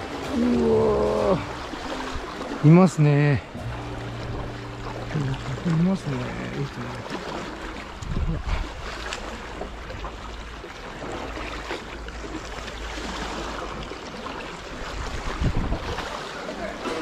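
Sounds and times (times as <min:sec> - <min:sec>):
low rumbles of waves: 0:00.0 - 0:17.0
sea surging against rocks: 0:00.0 - 0:17.0.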